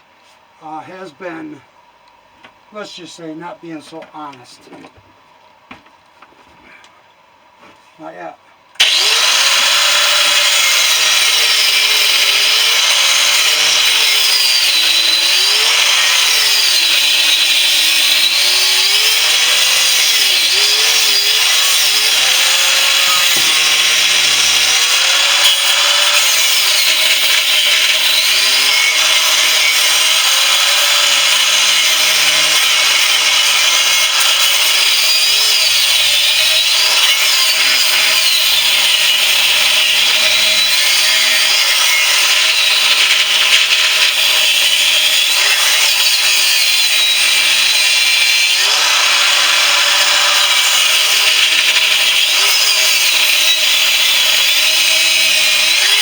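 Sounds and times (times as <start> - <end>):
angle grinder cutting steel: 8.8 - 56.0.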